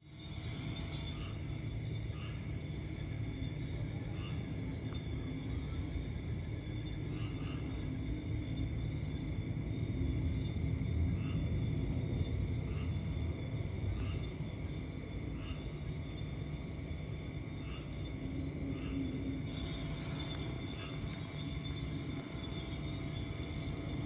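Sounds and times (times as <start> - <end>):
faint high drone: 0.0 - 24.0
distant jet aircraft rumble: 0.1 - 24.0.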